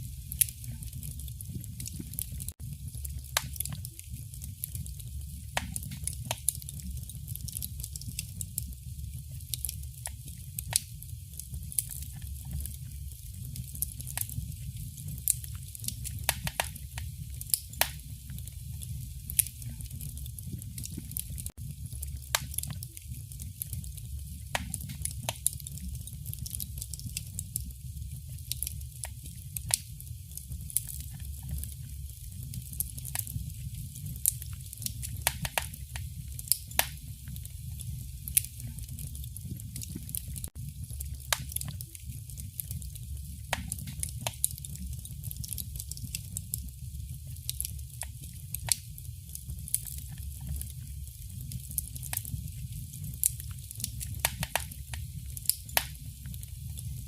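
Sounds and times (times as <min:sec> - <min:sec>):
fire crackling and popping: 0:00.0 - 0:57.0
low rumble of burning fire: 0:00.0 - 0:57.0.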